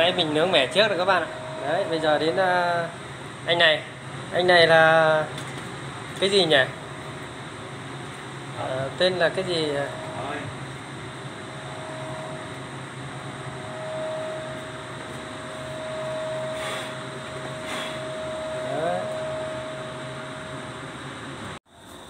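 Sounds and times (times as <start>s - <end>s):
machine hum with held tone: 0.0s - 22.0s.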